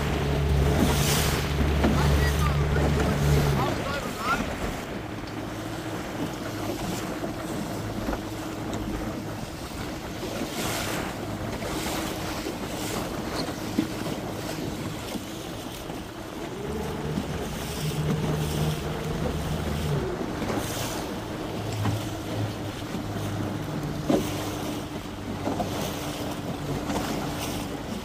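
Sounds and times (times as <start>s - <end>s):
outboard motor running: 0.0s - 28.0s
waves splashing against hull: 0.0s - 28.0s.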